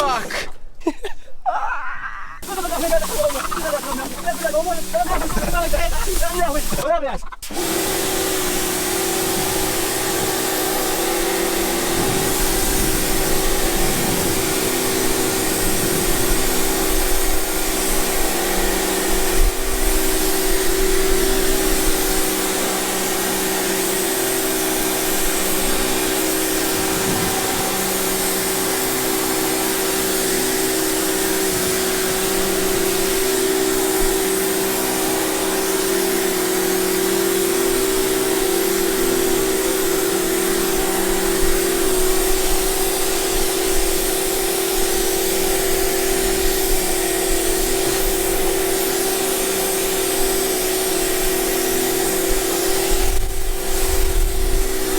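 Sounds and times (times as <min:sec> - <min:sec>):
cleaning machine motor hum: 0:02.4 - 0:54.9.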